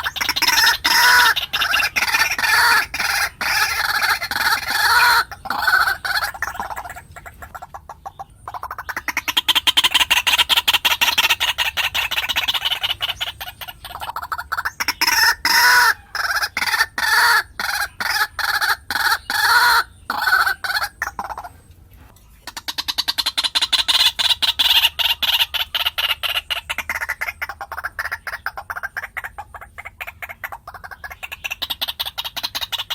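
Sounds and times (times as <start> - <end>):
waterhen calling: 0.0 - 32.9.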